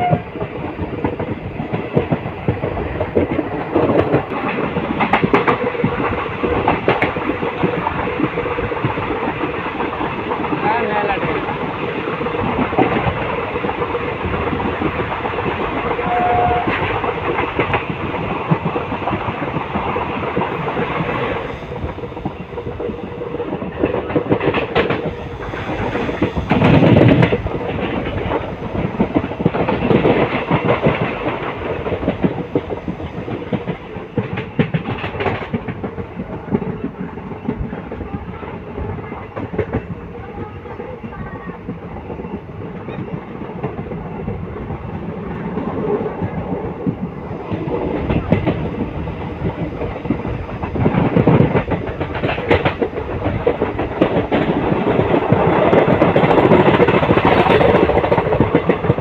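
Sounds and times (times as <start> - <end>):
passing train alongside: 0.0 - 59.0
train wheels clattering on rails: 0.0 - 59.0.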